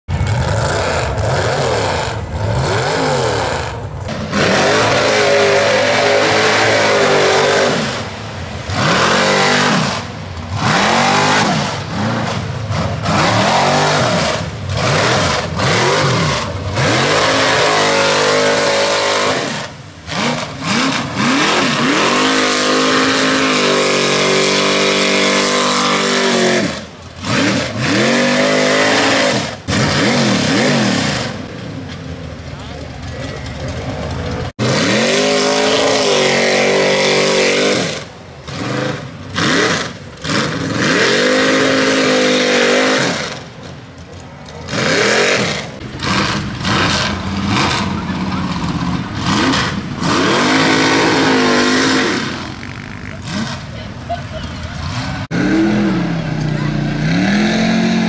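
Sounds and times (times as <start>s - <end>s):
truck engine revving hard: 0.1s - 31.9s, 33.1s - 43.7s, 44.6s - 58.0s.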